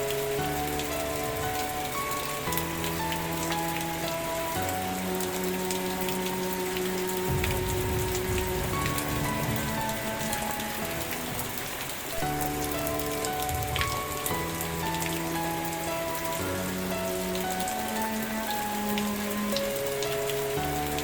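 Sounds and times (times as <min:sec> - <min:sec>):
raindrops ticking: 0:00.0 - 0:21.0
soft background music: 0:00.0 - 0:21.0
steady rain: 0:00.0 - 0:21.0.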